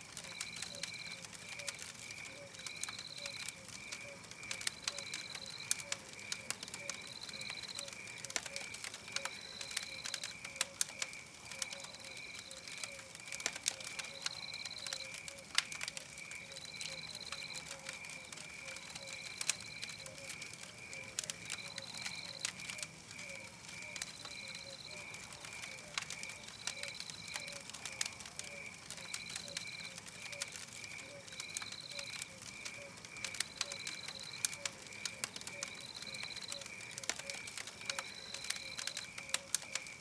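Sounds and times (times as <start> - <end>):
campfire crackling: 0.0 - 40.0
insects chirping at night: 0.0 - 40.0.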